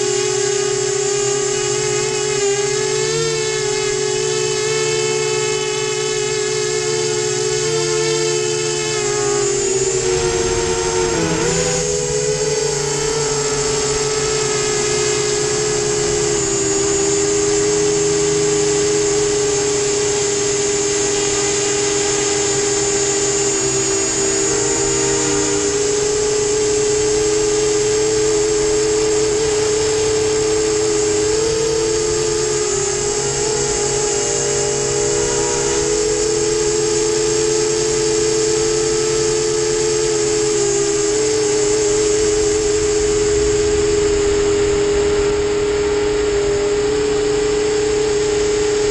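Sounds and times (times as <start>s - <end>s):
drone motors whining: 0.0s - 48.9s.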